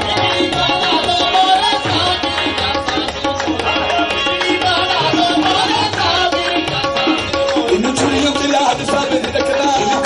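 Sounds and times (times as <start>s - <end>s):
hand drums beating: 0.0s - 10.0s.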